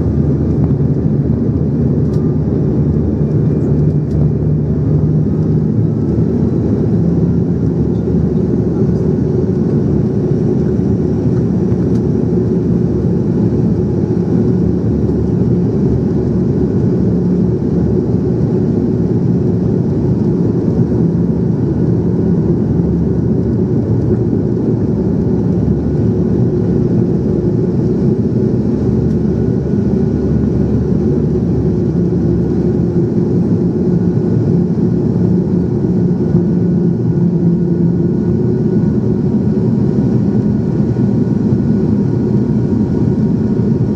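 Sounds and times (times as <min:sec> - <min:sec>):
airliner engines droning: 0:00.0 - 0:43.9
constant low hum: 0:00.0 - 0:43.9.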